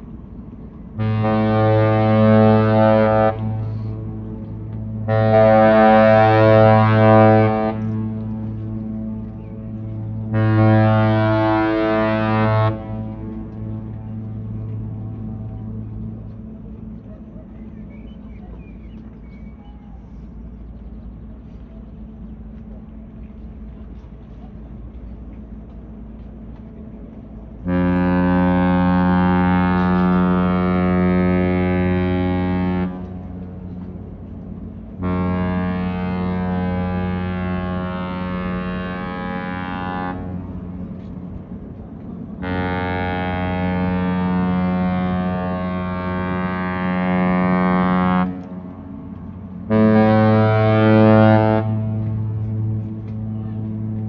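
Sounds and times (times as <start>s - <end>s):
low background rumble: 0.0s - 54.0s
deep ship horn blast: 0.1s - 17.9s, 19.0s - 54.0s.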